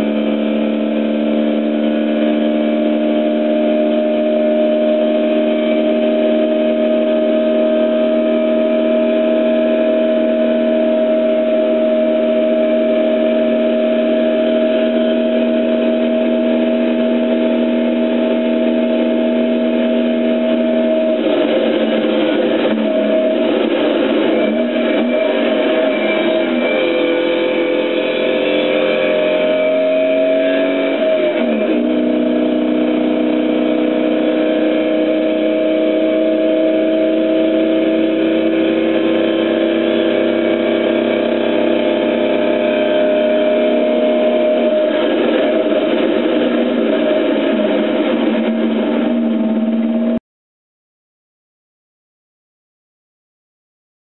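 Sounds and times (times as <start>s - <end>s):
car engine pulling uphill: 0.0s - 50.2s.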